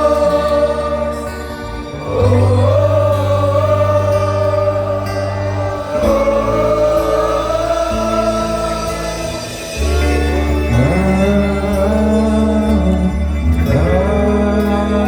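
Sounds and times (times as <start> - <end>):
choir singing long notes: 0.0 - 15.0
low accompaniment: 0.0 - 15.0.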